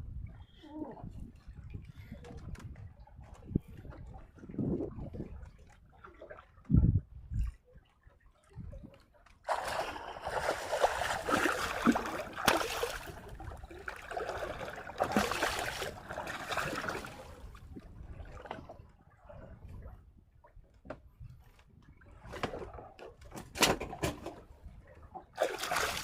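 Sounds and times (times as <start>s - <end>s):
water sloshing and splashing: 0.0s - 26.0s.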